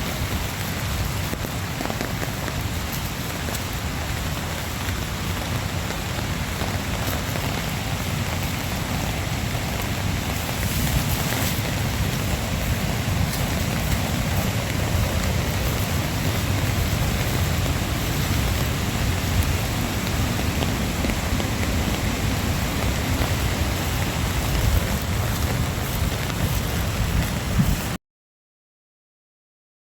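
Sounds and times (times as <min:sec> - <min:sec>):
falling water: 0:00.0 - 0:28.0
heavy rain: 0:00.0 - 0:28.0.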